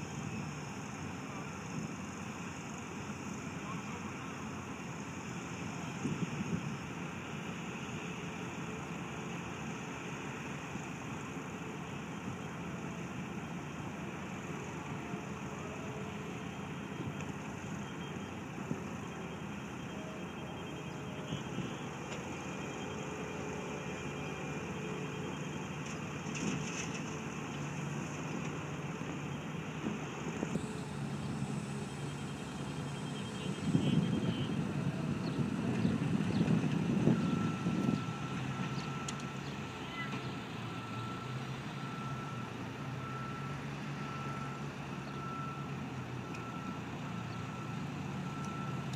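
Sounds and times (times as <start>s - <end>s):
diesel construction engines running: 0.0s - 48.9s.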